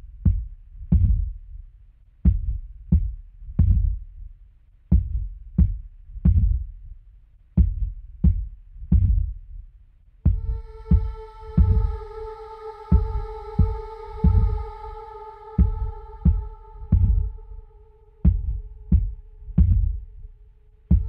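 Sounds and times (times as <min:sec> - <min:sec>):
heartbeat thuds: 0:00.0 - 0:01.6, 0:02.2 - 0:04.3, 0:04.9 - 0:07.0, 0:07.6 - 0:21.0.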